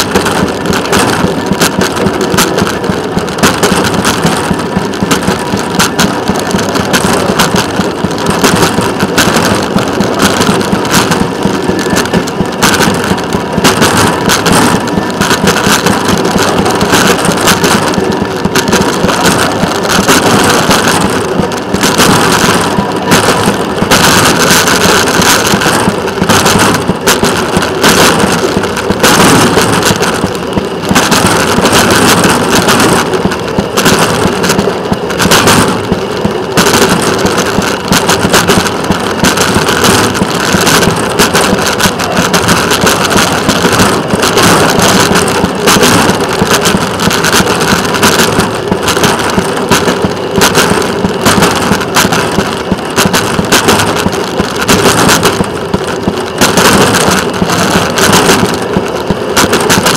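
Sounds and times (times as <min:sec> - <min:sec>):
train running on track: 0:00.0 - 0:59.9.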